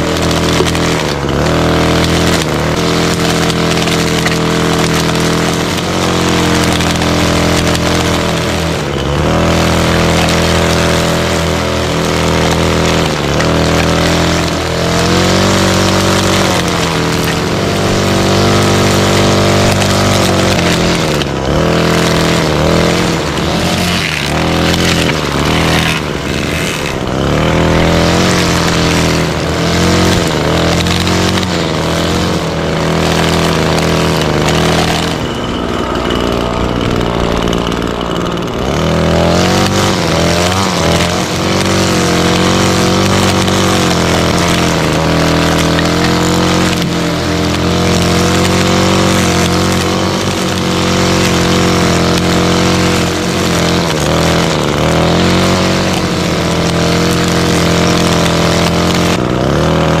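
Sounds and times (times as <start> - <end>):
string trimmer engine running: 0.0 - 60.0.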